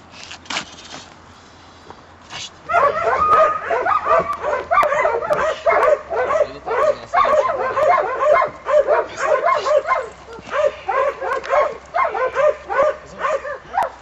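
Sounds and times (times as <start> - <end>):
puppy whining yips: 2.7 - 14.0.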